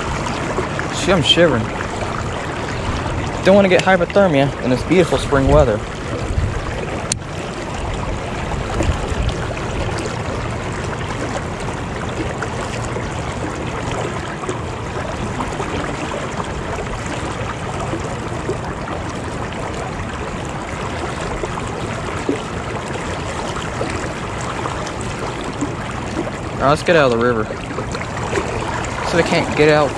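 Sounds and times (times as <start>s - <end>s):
river current rushing: 0.0s - 29.9s.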